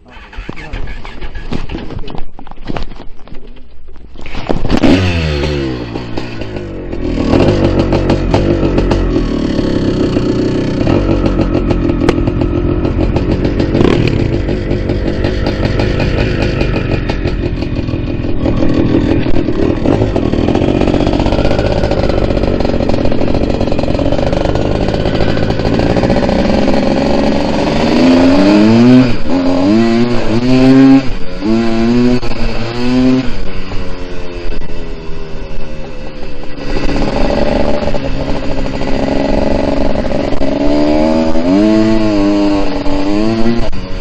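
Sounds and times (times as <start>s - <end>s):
two-stroke dirt bike engines: 0.0s - 44.0s.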